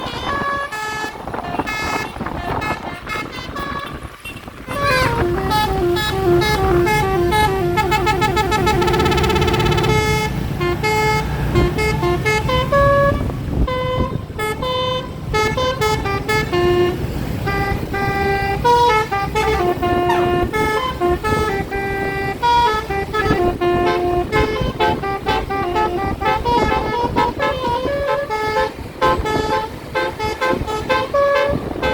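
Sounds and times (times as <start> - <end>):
bus horn playing a tune: 0.0 - 31.9
low engine and road rumble: 0.0 - 31.9.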